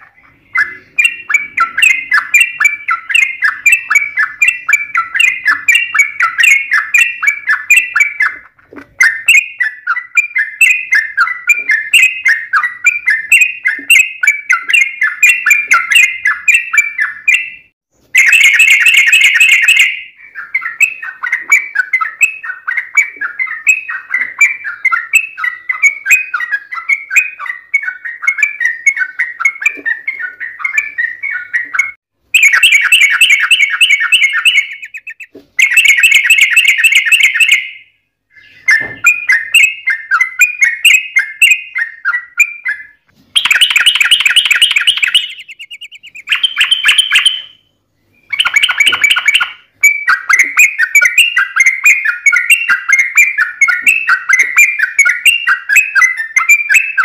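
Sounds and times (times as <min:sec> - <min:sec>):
bird song chattering: 0:00.0 - 0:57.0
bird trilling: 0:00.0 - 0:57.0.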